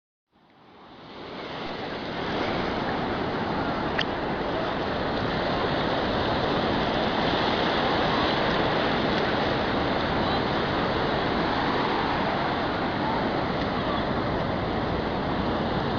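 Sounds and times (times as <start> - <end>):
sea surf rushing: 0.6 - 15.9.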